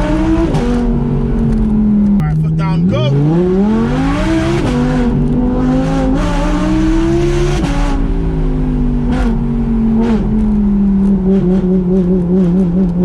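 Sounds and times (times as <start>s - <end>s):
sports car engine accelerating: 0.0s - 13.0s.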